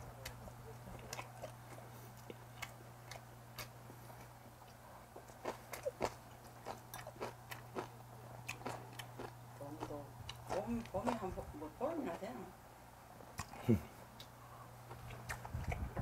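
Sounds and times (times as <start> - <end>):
person chewing food: 0.0 - 11.3, 13.3 - 15.9.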